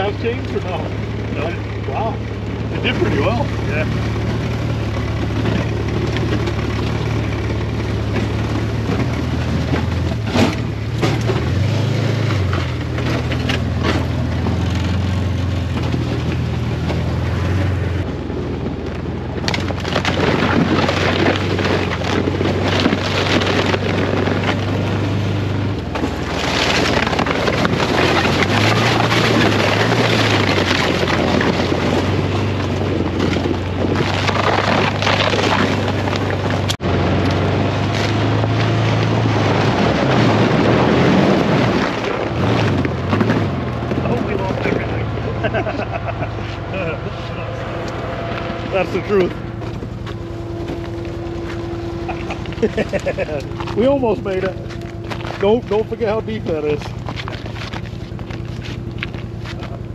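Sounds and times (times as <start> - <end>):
tyre and wind noise: 0.0 - 59.9
utility vehicle engine running: 0.0 - 59.9.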